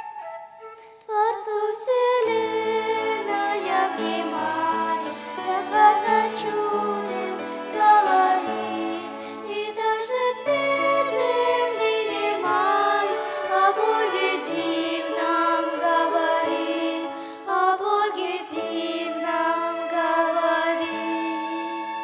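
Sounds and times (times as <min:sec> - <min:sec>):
vocal ensemble singing: 0:01.5 - 0:22.0
violin accompaniment: 0:02.2 - 0:22.0.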